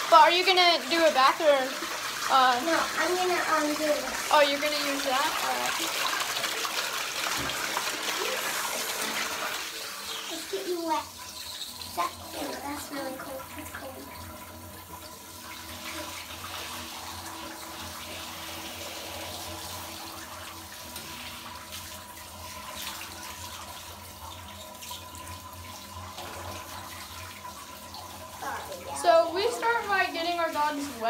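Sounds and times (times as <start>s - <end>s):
shower water splashing into tub: 0.0s - 31.0s.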